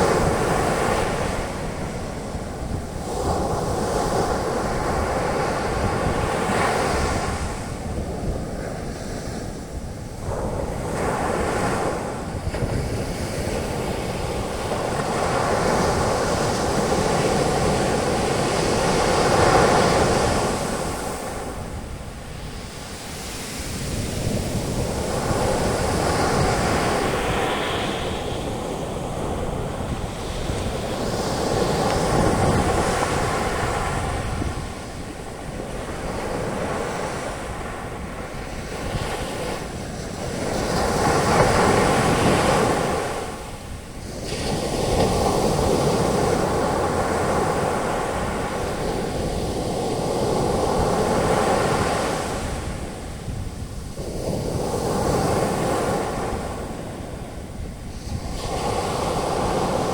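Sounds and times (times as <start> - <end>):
ocean waves breaking on beach: 0.0 - 59.9
wind on microphone: 0.0 - 59.9.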